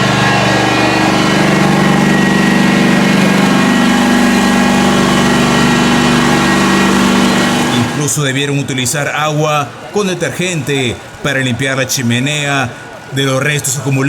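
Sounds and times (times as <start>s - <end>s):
fire engine motor idling: 0.0s - 14.0s.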